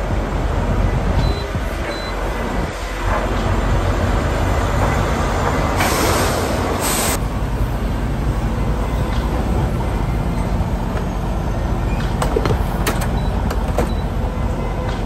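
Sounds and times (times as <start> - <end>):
diesel truck engines idling: 0.0 - 15.0.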